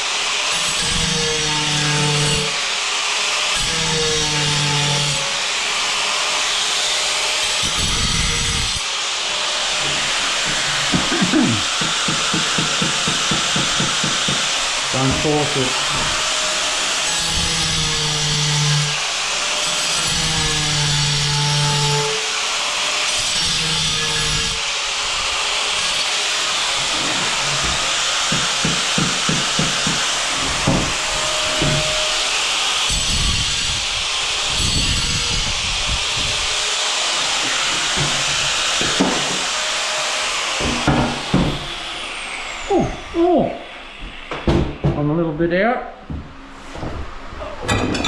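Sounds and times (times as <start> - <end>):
angle grinder cutting tile: 0.0 - 44.3.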